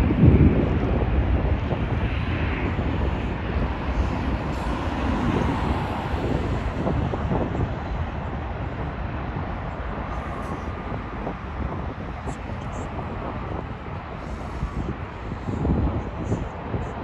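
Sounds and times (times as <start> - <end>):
distant jet aircraft rumble: 0.0 - 17.0
road traffic: 0.0 - 17.0
wind buffeting microphone: 0.0 - 17.0.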